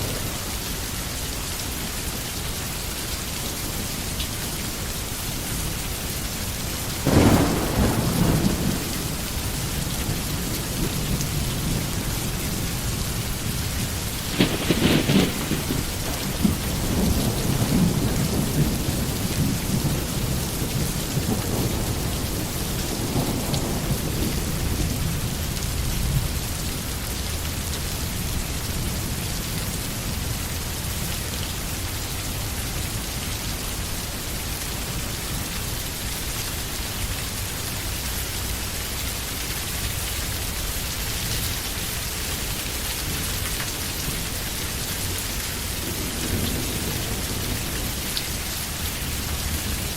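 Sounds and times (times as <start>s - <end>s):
heavy rain on foliage: 0.0s - 49.9s.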